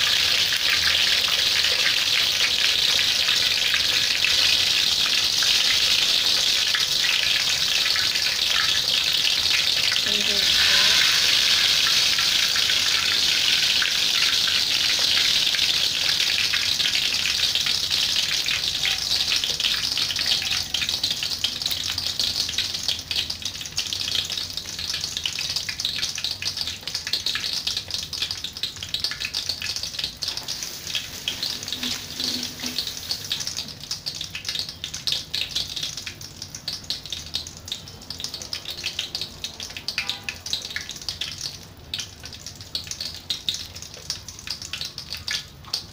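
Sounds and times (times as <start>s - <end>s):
fish sizzling in oil: 0.0s - 45.9s.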